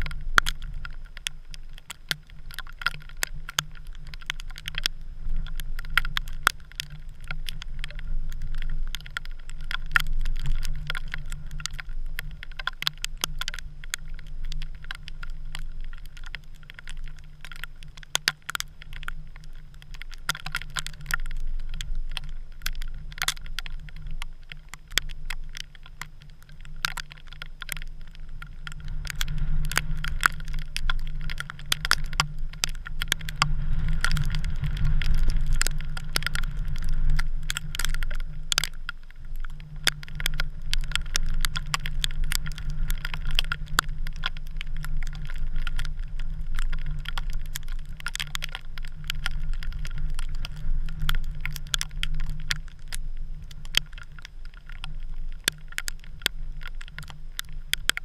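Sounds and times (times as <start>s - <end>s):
sharp ticks and clicks: 0.0s - 58.0s.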